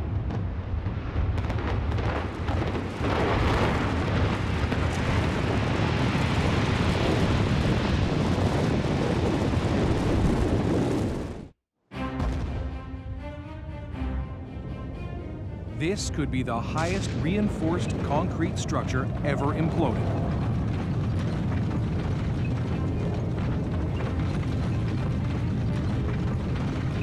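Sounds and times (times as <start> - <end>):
building collapsing rumble: 0.0 - 11.6, 15.8 - 27.0
demolition charges cracking: 0.1 - 11.5, 15.8 - 27.0.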